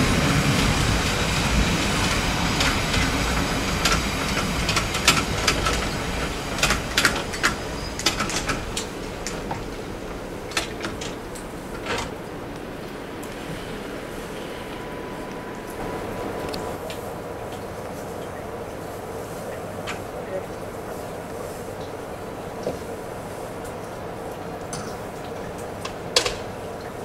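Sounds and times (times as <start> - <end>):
train rumbling on track: 0.0 - 27.0
wheels clacking on rails: 0.0 - 27.0.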